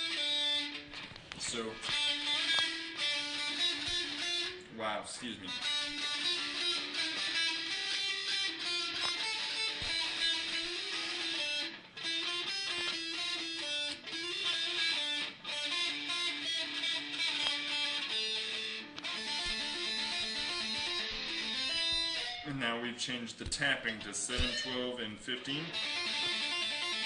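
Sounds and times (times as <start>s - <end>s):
electric guitar tapped run: 0.0s - 4.6s, 5.5s - 22.5s, 23.4s - 27.0s.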